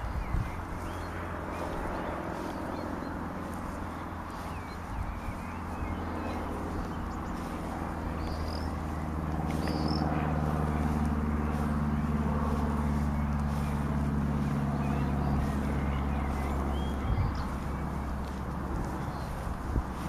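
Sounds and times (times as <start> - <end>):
bird chirps: 0.0 - 20.0
vehicle engine hum: 0.0 - 20.0.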